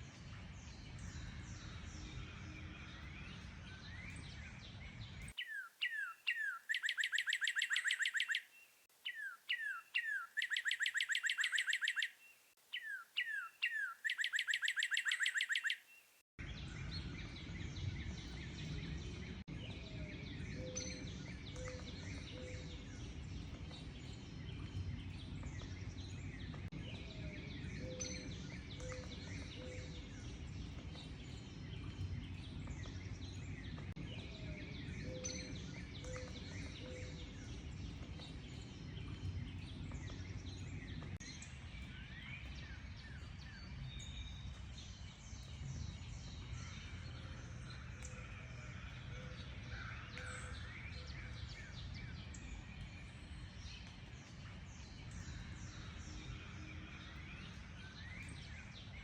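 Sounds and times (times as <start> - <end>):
bird chorus: 0.0 - 59.0
songbird singing: 0.0 - 59.0.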